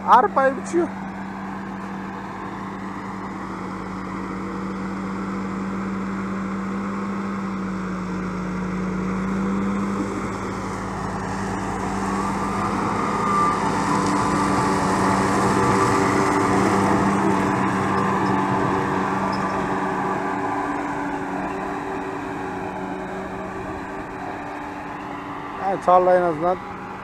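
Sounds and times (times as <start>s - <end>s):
high mower whine: 0.0s - 27.0s
tractor engine running: 0.0s - 27.0s.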